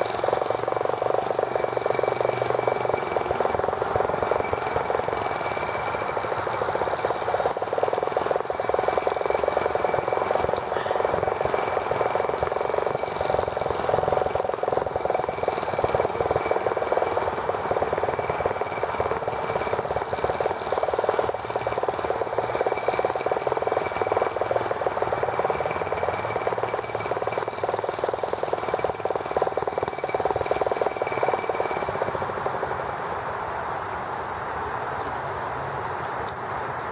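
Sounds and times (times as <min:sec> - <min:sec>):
small gasoline engine buzzing: 0:00.0 - 0:33.8.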